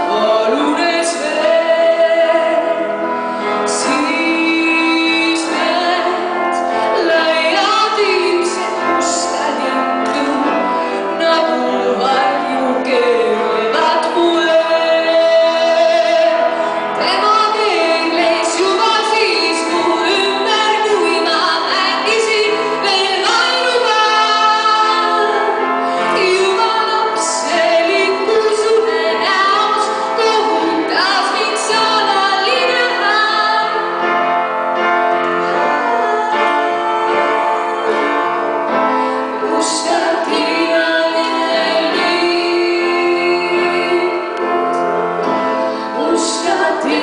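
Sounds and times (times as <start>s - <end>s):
woman singing slow song: 0.0s - 3.0s, 3.6s - 33.9s, 35.6s - 44.5s, 45.9s - 47.0s
upright piano: 0.0s - 47.0s.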